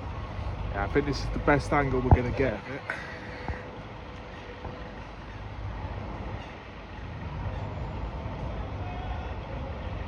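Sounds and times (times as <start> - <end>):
low engine rumble: 0.0 - 10.0
outdoor background noise: 0.0 - 10.0.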